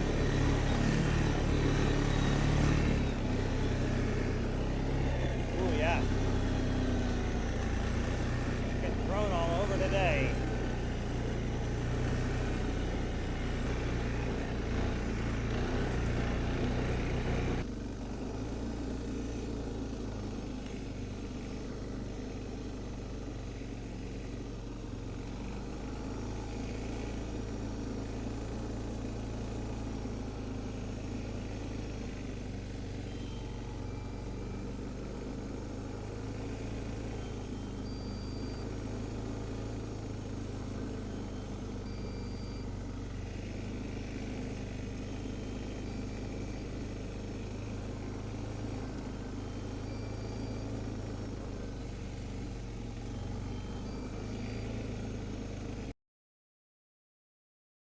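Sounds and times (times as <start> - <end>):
off-road vehicle engine running: 0.0 - 55.9.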